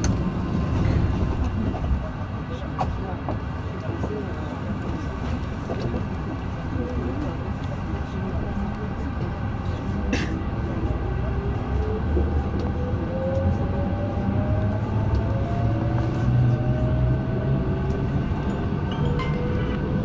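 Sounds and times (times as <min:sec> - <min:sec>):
wheels rumbling on track: 0:00.0 - 0:20.0.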